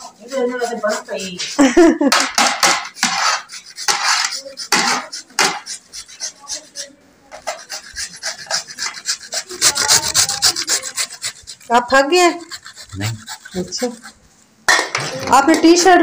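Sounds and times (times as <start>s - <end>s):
carrots grated on metal graters: 0.0s - 16.0s.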